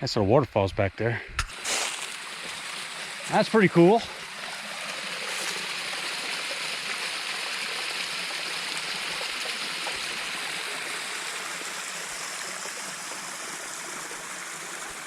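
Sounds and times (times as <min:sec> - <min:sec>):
creek water rushing and splashing: 0:01.4 - 0:15.0.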